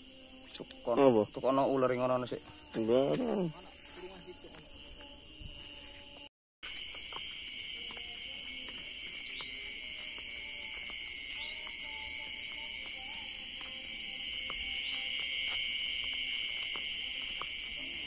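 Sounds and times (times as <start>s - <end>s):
night insects droning: 0.0s - 18.0s.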